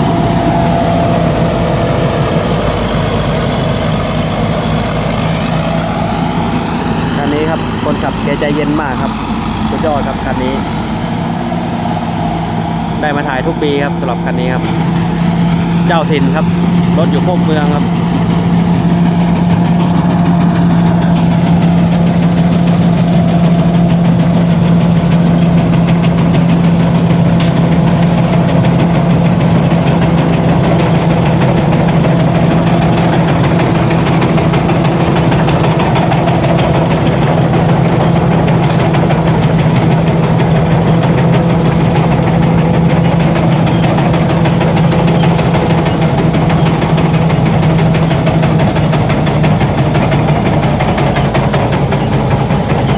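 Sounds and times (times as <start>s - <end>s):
harvester engine running: 0.0s - 52.9s
thin high whine: 0.0s - 52.9s.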